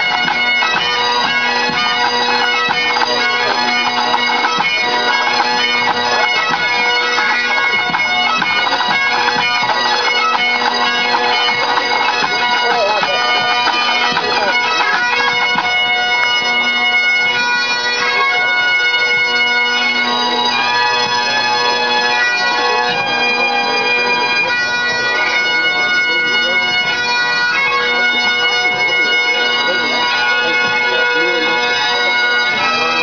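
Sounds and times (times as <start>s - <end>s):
bagpipe band playing: 0.0s - 33.0s.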